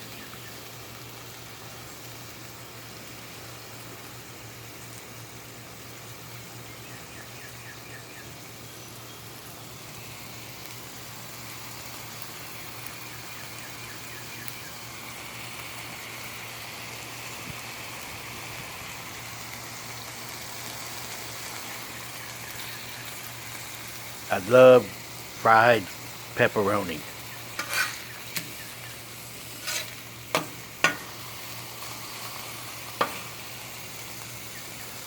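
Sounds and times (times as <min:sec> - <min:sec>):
meat sizzling on a griddle: 0:00.0 - 0:35.0.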